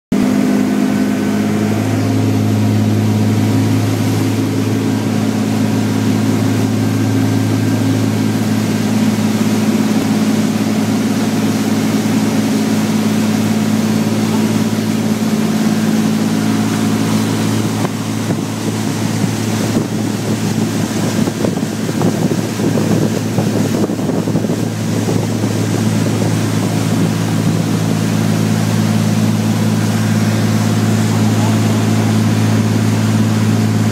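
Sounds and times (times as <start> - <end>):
churning wake: 0.1 - 33.9
wind: 0.1 - 33.9
boat engines droning: 0.2 - 33.9.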